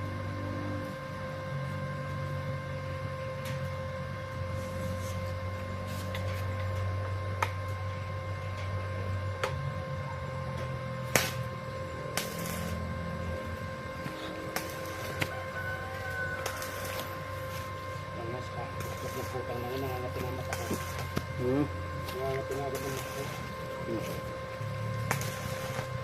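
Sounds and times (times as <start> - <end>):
arc welder humming: 0.0 - 26.0.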